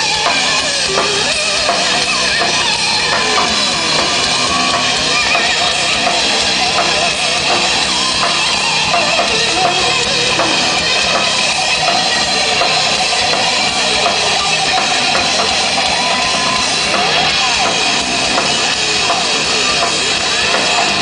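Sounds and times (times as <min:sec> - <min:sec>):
lead guitar solo bending pitch: 0:00.0 - 0:19.8
rock band playing live: 0:00.0 - 0:21.0.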